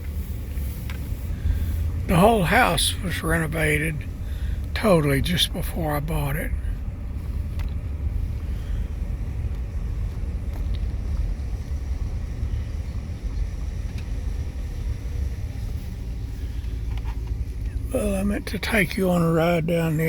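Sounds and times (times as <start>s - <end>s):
car driving rumble inside cabin: 0.0s - 20.0s.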